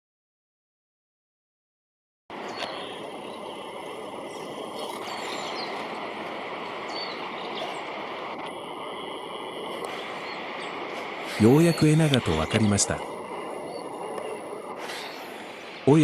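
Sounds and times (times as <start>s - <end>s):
outdoor rushing noise: 2.3s - 16.0s
faint bird chirps: 2.4s - 16.0s.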